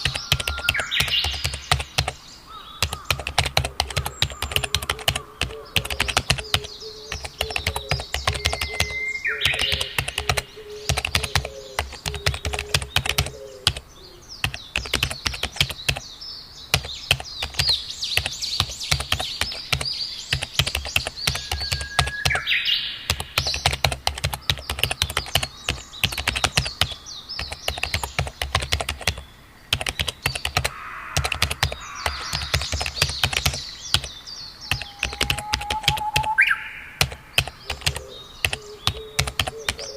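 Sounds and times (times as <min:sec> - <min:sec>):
keyboard typing: 0:00.0 - 0:02.2, 0:02.8 - 0:13.8, 0:14.4 - 0:16.0, 0:16.7 - 0:22.5, 0:23.1 - 0:36.4, 0:37.0 - 0:39.9
songbirds chirping: 0:00.0 - 0:39.9.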